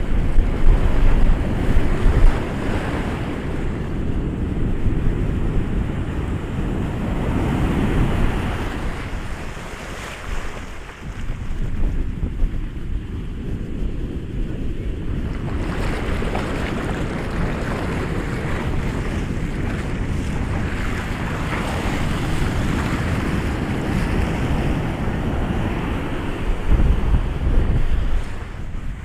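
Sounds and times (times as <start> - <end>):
waves breaking: 0.0 - 29.0
wind rumble on microphone: 0.0 - 29.0.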